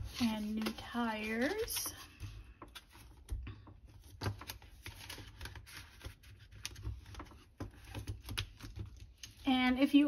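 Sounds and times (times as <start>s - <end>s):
paper bills rustling in plastic: 0.0s - 9.4s.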